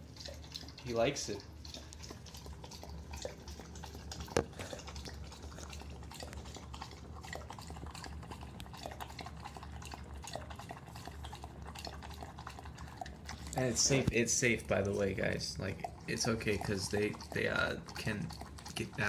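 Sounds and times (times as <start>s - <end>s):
dog lapping water: 0.0s - 19.0s.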